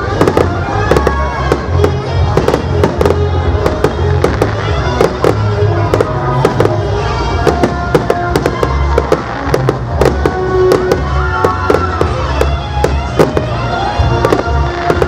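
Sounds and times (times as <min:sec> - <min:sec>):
fireworks bangs and crackling: 0:00.0 - 0:15.0
music playing: 0:00.0 - 0:15.0.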